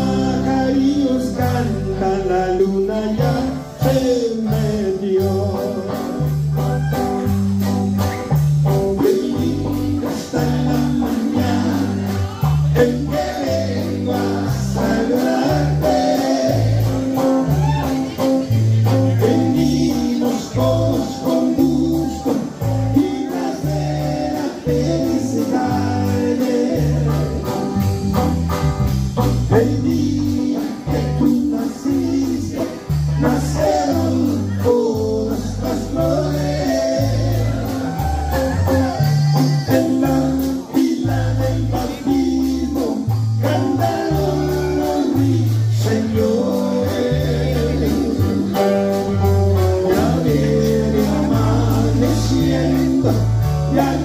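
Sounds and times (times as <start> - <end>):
bass line: 0.0 - 54.0
drum kit: 0.0 - 54.0
electric guitar: 0.0 - 54.0.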